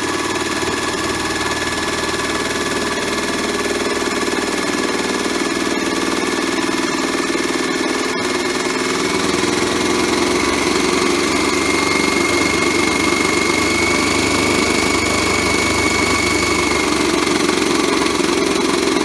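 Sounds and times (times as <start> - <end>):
small motor humming and whining: 0.0 - 19.0.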